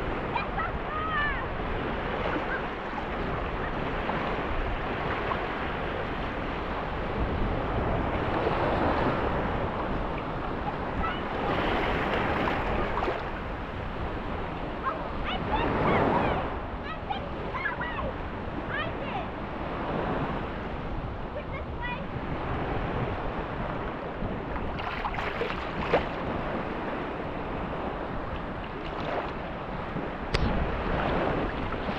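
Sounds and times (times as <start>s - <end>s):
small waves lapping on shore: 0.0s - 31.9s.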